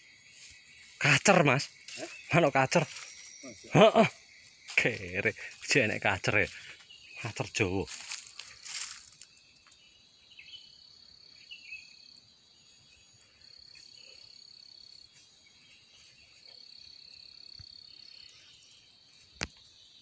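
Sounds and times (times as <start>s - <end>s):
high-pitched insect trilling: 0.0s - 20.0s.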